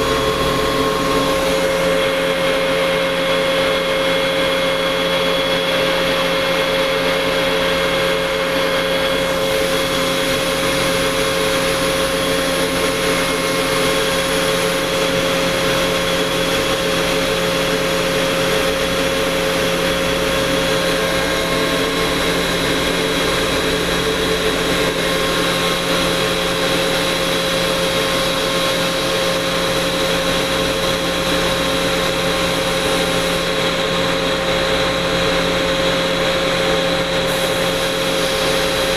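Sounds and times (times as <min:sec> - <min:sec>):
air compressor humming and whining: 0:00.0 - 0:38.9.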